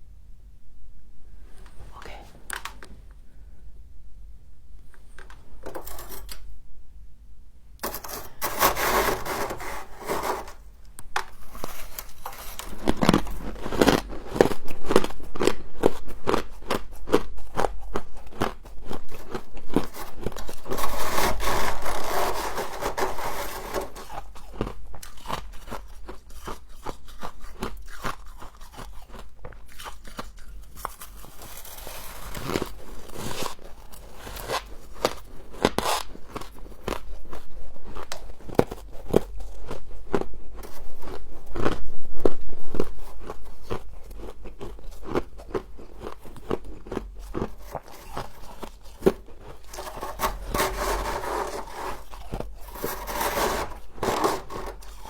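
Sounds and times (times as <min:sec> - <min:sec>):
ice crunching while chewed: 0:07.9 - 0:55.0.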